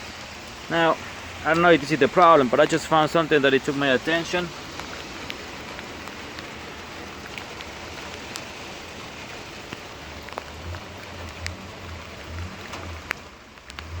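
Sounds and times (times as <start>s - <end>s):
drops ticking close by: 0.0s - 14.0s
steady rain: 0.0s - 14.0s.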